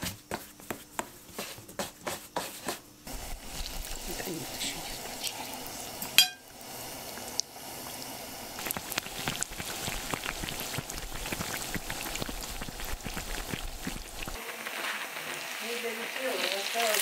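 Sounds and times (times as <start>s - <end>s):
cake frying in hot oil: 3.0s - 17.0s.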